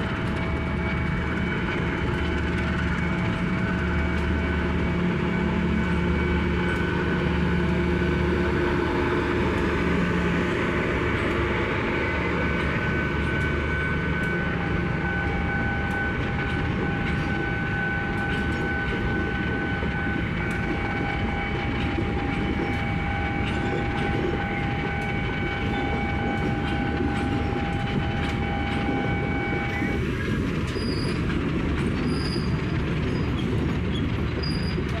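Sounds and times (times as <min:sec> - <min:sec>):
high whining tones: 0:00.0 - 0:32.8
train cars clattering over rails: 0:00.0 - 0:35.0.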